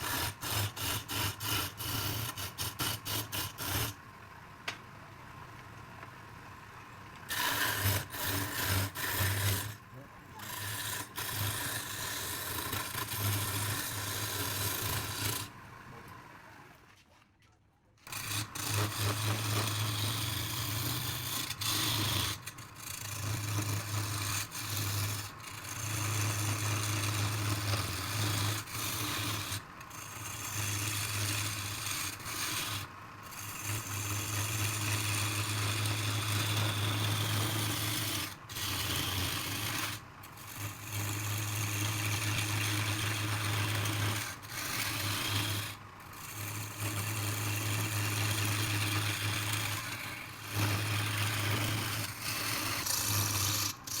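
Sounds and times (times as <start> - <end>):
tool scraping spinning wood: 7.2 - 15.6, 18.1 - 54.0
wood lathe humming: 7.3 - 9.8, 10.4 - 15.6, 18.1 - 54.0.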